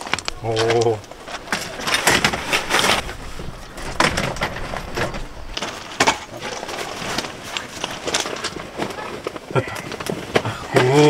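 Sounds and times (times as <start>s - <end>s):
fabric rustling: 0.0s - 11.0s
gravel crunching: 0.0s - 11.0s
metal frame clatter: 0.0s - 11.0s.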